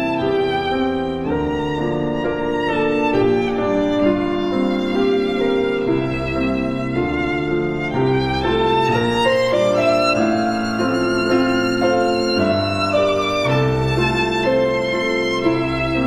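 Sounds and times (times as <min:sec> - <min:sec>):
violin background music: 0:00.0 - 0:16.0.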